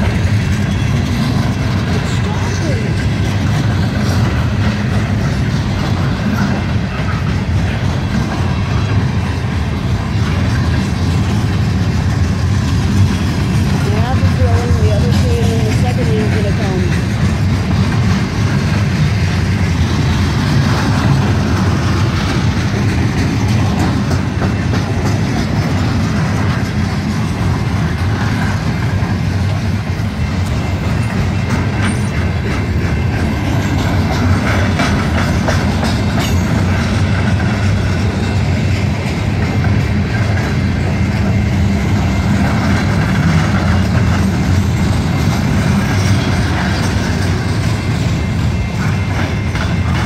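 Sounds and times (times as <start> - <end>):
sharp rail clacks: 0.0 - 41.4
train wheels rumbling on rails: 0.0 - 50.0.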